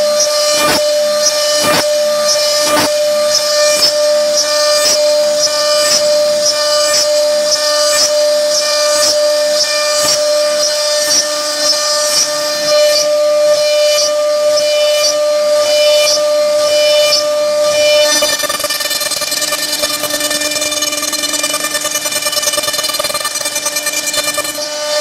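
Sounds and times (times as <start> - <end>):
router bit cutting wood: 0.0 - 25.0
router spindle high whine: 0.0 - 25.0.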